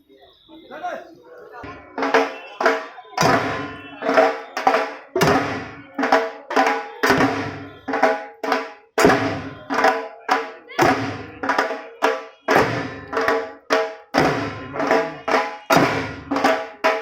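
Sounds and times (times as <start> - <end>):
big drum beaten with sticks: 1.7 - 17.0.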